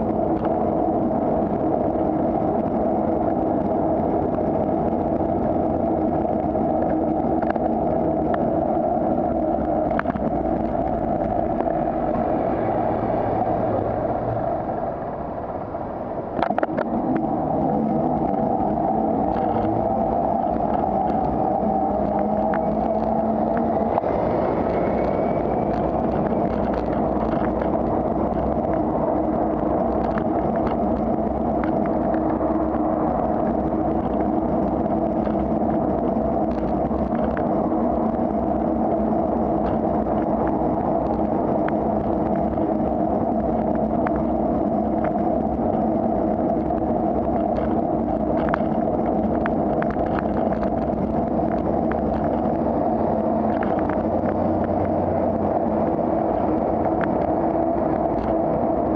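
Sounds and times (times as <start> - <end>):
motor traffic: 0.0 - 58.9
wind and road noise: 0.0 - 58.9.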